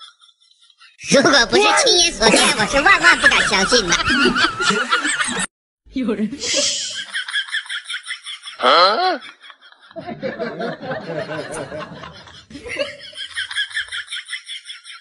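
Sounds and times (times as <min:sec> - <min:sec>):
laughter: 0:00.0 - 0:05.5, 0:06.4 - 0:15.0.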